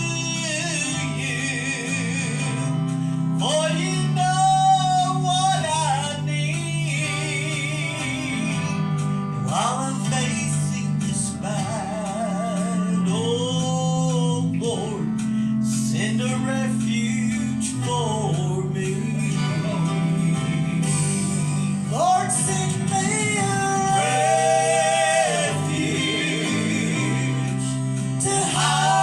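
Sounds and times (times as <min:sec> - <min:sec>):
acoustic guitar: 0:00.0 - 0:29.0
person singing gospel with vibrato: 0:00.0 - 0:29.0
steady held bass: 0:00.0 - 0:29.0.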